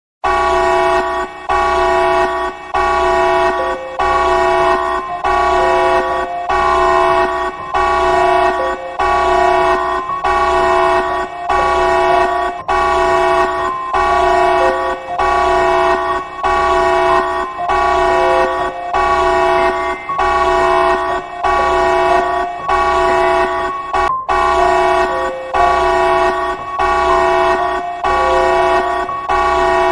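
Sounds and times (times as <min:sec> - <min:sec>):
emergency alert alarm blasts: 0:00.2 - 0:29.9.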